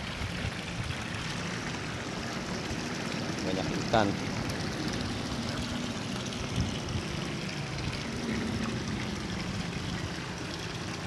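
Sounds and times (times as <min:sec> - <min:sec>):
water pouring into pond: 0:00.0 - 0:11.0.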